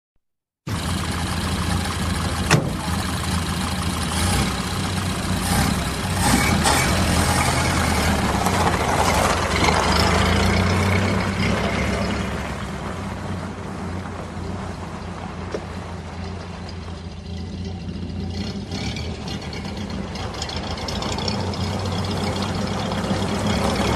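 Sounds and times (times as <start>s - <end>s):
car engine running: 0.7s - 23.9s.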